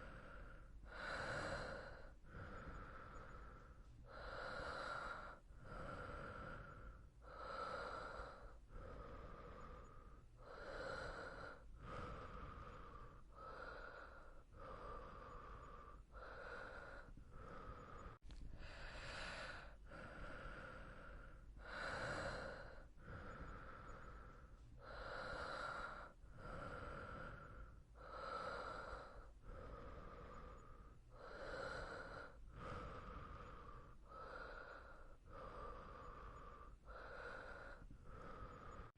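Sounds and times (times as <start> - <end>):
person breathing in and out: 0.0 - 38.9.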